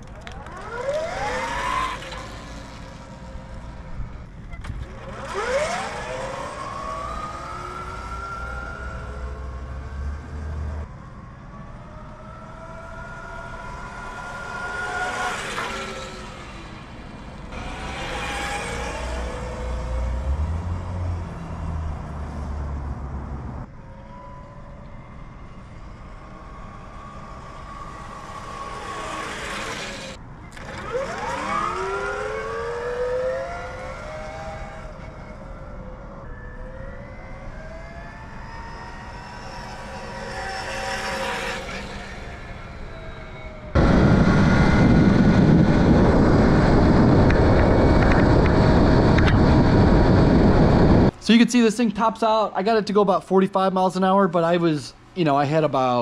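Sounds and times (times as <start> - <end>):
electric motorcycle motor whine: 0.2 - 10.9, 12.0 - 20.8, 23.8 - 51.1.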